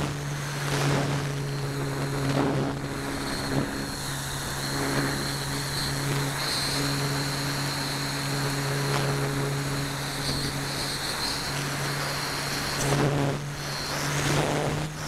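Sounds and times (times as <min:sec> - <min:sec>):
electric motor and propeller drone: 0:00.0 - 0:15.0
wind rushing over microphone: 0:00.0 - 0:15.0.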